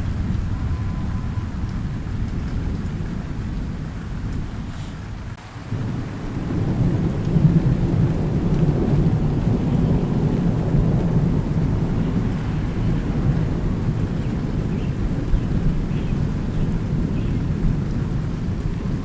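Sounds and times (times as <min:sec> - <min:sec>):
rain falling: 0:00.0 - 0:19.0
thunder rumbling: 0:00.0 - 0:19.0.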